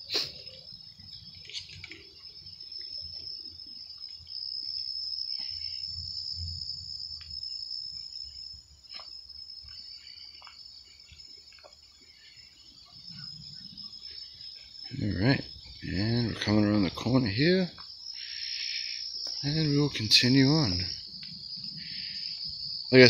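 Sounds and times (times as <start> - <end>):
high-pitched insect trill: 0.0 - 23.0
footsteps on woodland path: 0.4 - 5.9, 7.2 - 22.6.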